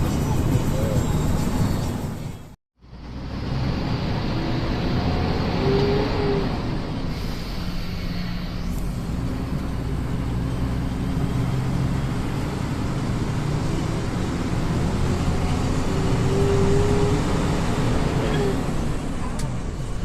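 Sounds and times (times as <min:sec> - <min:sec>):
bus engine drone: 0:00.0 - 0:20.0
road and tyre noise: 0:00.0 - 0:20.0.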